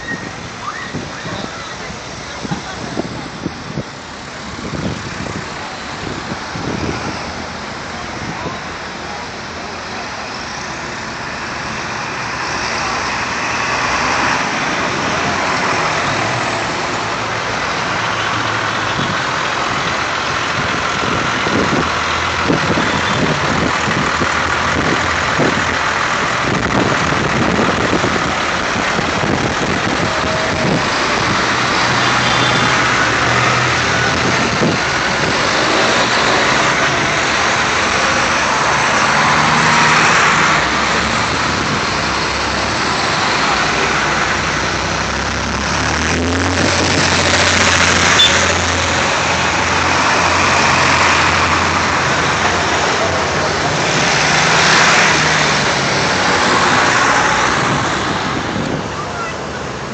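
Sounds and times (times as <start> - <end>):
tractor engines passing: 0.0 - 59.9.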